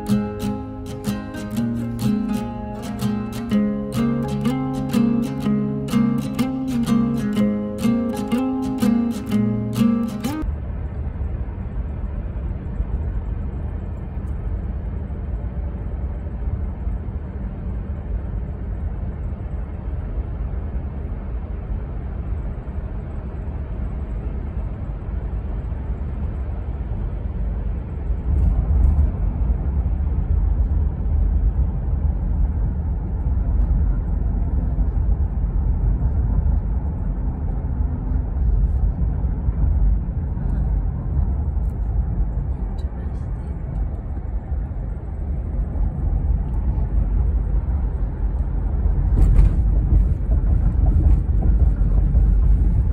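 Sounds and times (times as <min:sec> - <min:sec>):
low outdoor rumble: 0:00.0 - 0:52.9.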